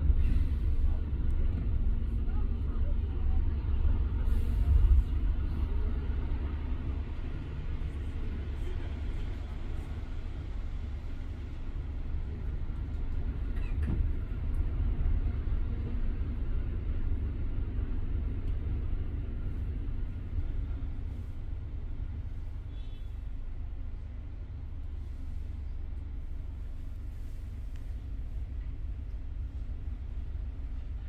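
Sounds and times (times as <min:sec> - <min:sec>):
city road traffic rumble: 0:00.0 - 0:31.0.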